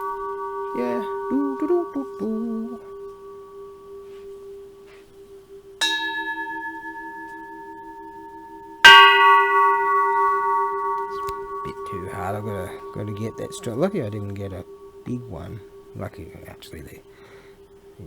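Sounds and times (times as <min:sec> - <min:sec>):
temple bell ringing: 0:00.0 - 0:17.6.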